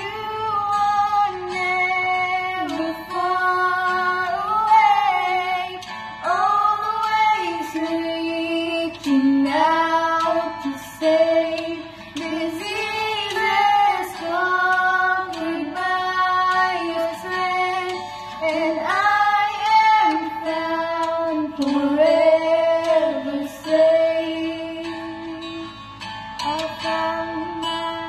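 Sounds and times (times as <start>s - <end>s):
girls singing in duet: 0.0s - 28.0s.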